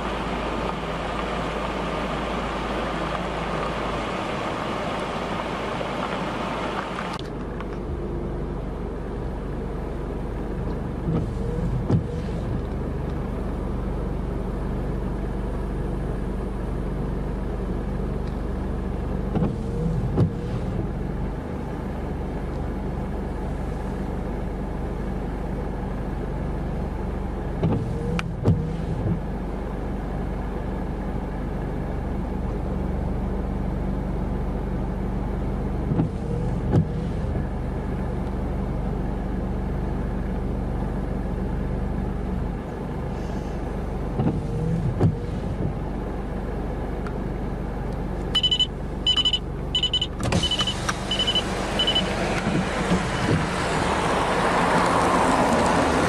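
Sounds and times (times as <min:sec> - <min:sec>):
car engine hum from inside: 0:00.0 - 0:56.0.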